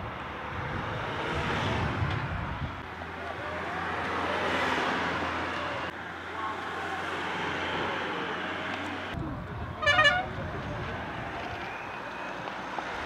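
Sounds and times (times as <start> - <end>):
vehicles driving past: 0.0 - 13.0.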